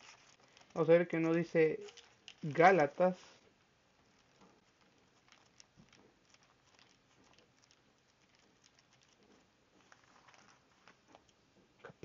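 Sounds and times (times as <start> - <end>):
hands rustling: 0.0 - 11.4.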